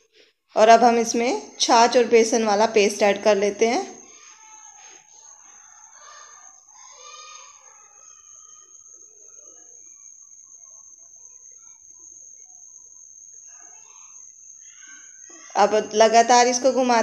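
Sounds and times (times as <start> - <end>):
faint scattered sounds: 0.0 - 17.0
high-pitched whine: 1.0 - 17.0.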